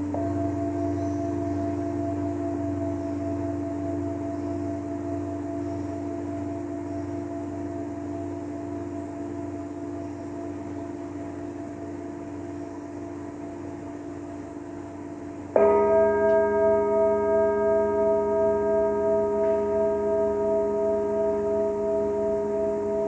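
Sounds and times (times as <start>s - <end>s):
singing bowl ringing: 0.0s - 23.0s.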